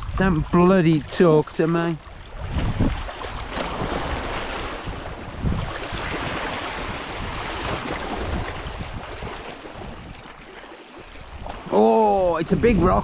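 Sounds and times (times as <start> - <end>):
sea surf washing: 0.0 - 13.0
wind buffeting microphone: 0.0 - 13.0.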